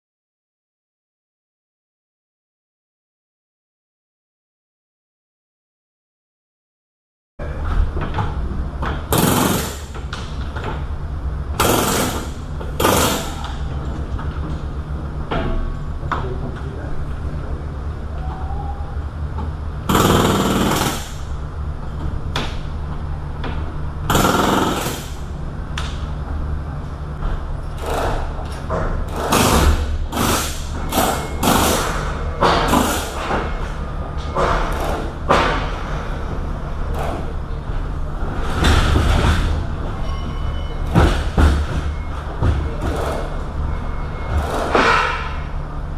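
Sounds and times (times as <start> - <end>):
low mechanical hum: 7.4 - 45.9.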